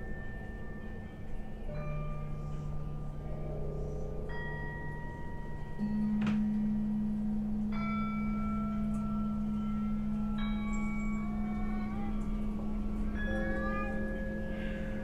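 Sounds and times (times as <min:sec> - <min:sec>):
bell-like struck tones: 0:00.0 - 0:15.0
low drone: 0:00.0 - 0:15.0.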